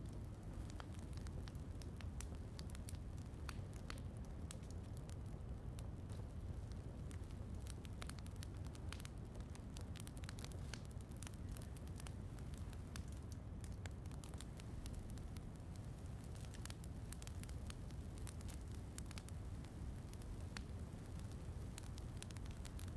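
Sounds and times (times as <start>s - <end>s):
fire low rumble: 0.0s - 22.9s
wood fire crackling: 0.0s - 22.9s.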